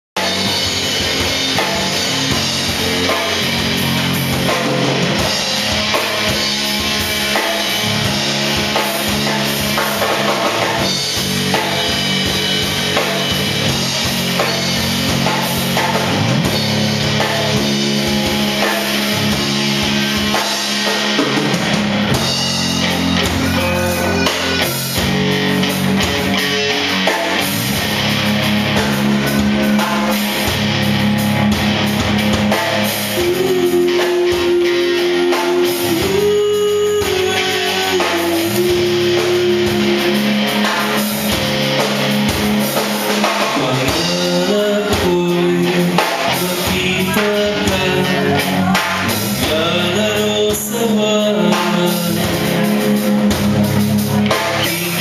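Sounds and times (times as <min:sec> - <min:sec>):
drum kit: 0:00.1 - 0:55.0
electric guitars: 0:00.2 - 0:55.0.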